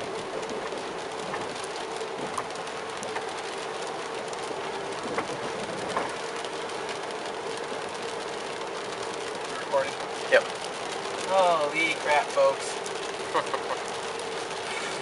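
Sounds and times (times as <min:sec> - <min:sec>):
rain hitting car windshield: 0:00.0 - 0:15.0
road noise: 0:00.0 - 0:15.0.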